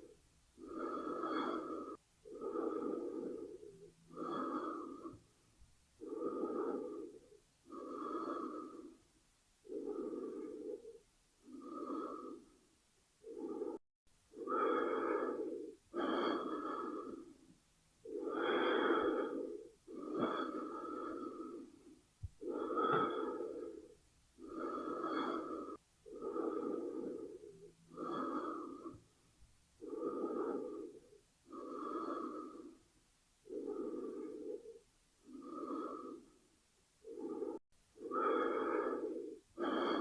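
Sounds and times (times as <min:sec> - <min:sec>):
person breathing slowly: 0:00.0 - 0:40.0.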